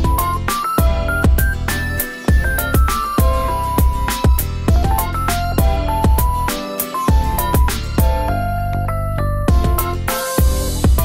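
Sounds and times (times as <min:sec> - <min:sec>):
held electronic notes: 0:00.0 - 0:11.0
steady bass: 0:00.0 - 0:11.0.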